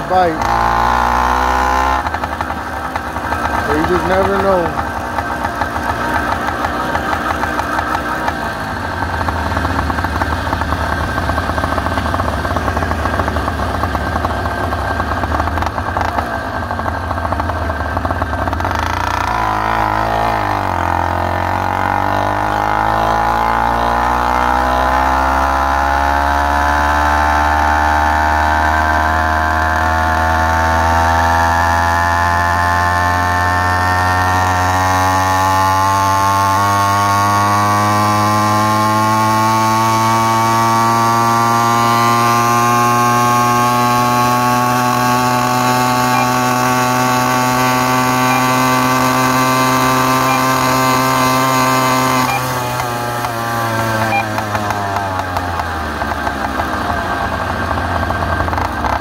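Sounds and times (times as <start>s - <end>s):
two-stroke engine running: 0.0s - 59.0s.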